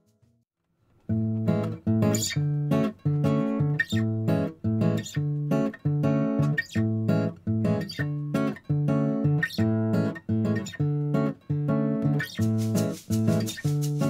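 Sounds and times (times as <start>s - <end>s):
strummed acoustic guitar: 1.1s - 14.0s.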